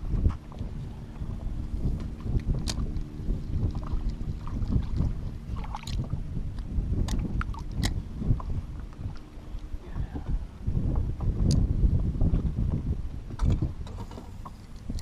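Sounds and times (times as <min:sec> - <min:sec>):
low boat engine rumble: 0:00.0 - 0:15.0
wind buffeting microphone: 0:00.0 - 0:15.0.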